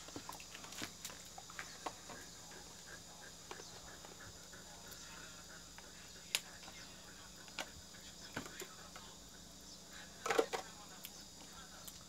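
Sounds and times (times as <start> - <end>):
high insect hum: 0.0 - 12.0.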